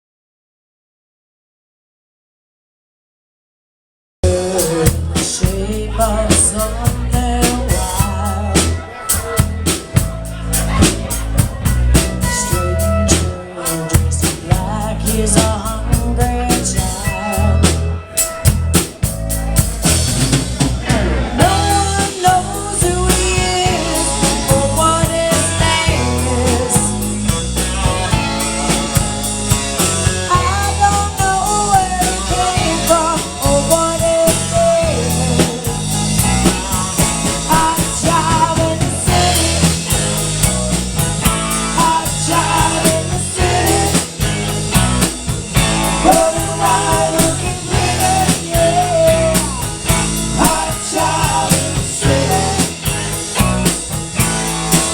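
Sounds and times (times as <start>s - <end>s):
bass: 4.2s - 54.9s
drum kit beating: 4.2s - 54.9s
pitch-bending lead guitar line: 4.3s - 54.9s.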